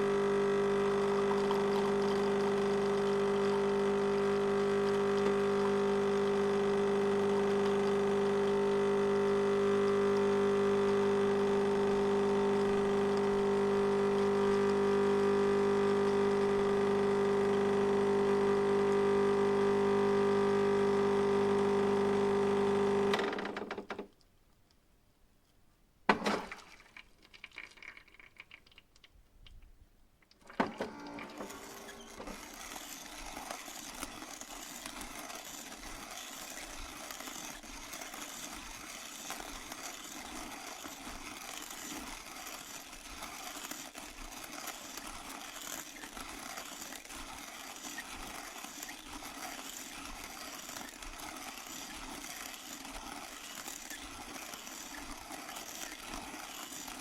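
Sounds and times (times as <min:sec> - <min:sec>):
coffee grinder motor grinding: 0:00.0 - 0:23.9, 0:30.4 - 0:57.0.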